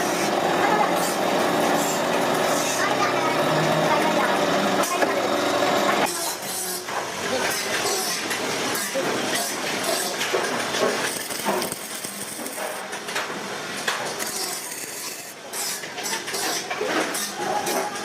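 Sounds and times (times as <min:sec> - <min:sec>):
noisy workshop background: 0:00.0 - 0:18.0.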